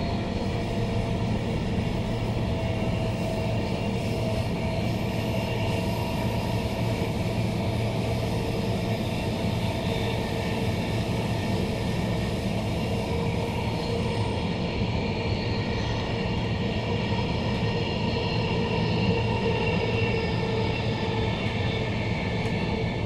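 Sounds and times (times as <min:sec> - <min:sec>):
hum and whine of running gear: 0:00.0 - 0:23.0
train wheels rumbling on rail: 0:00.0 - 0:23.0.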